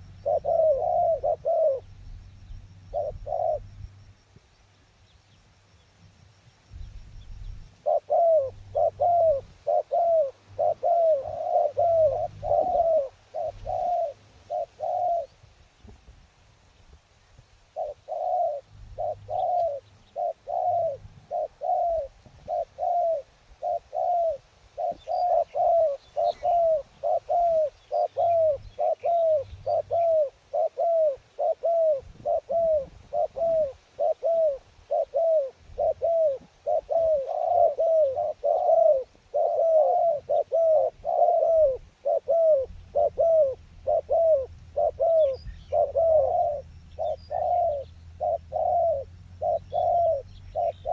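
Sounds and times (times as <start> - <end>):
dove cooing: 0.0 - 3.9, 6.8 - 16.0, 17.6 - 50.9.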